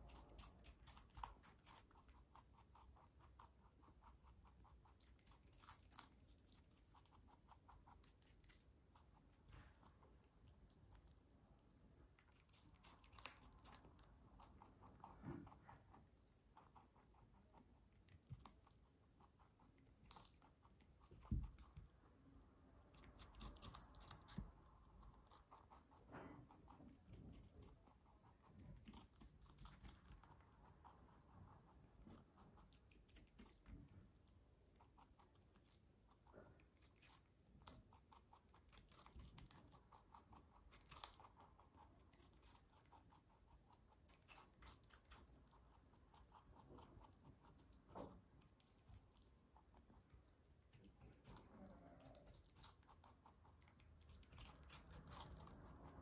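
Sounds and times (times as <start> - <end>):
rabbit chewing cucumber: 0.0 - 56.0.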